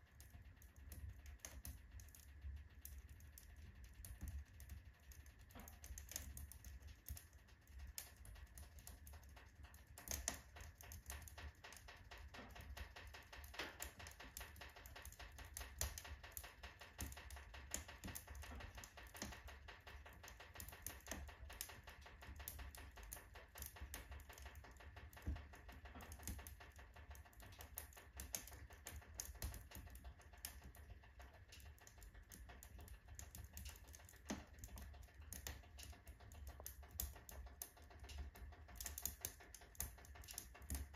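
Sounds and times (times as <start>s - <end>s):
firewood crackling in stove: 0.0s - 40.9s.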